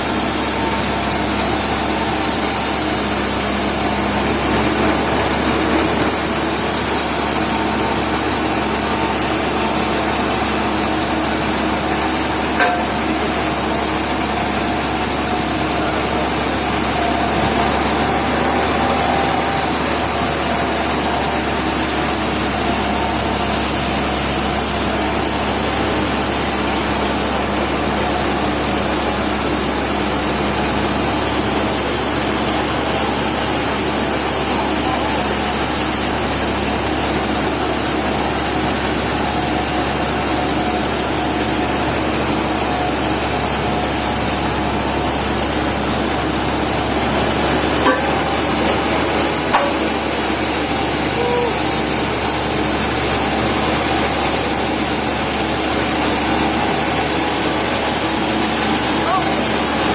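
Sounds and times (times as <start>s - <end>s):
sawmill running: 0.0s - 59.9s.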